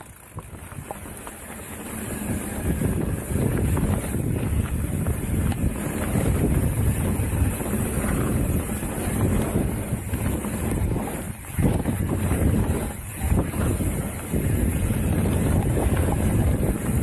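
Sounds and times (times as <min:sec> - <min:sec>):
bike rattling over bumps: 0:00.0 - 0:17.0
bike tyres rumbling on dirt: 0:00.0 - 0:17.0
wind buffeting microphone: 0:00.0 - 0:17.0.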